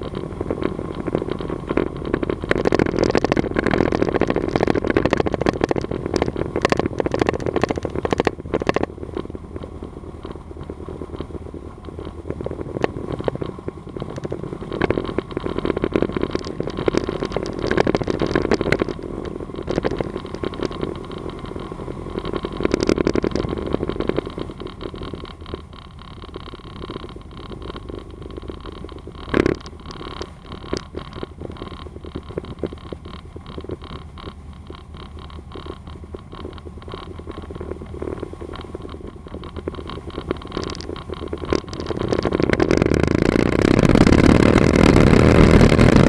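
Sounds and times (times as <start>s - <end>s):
crackling clicks and rattles: 0.0s - 46.0s.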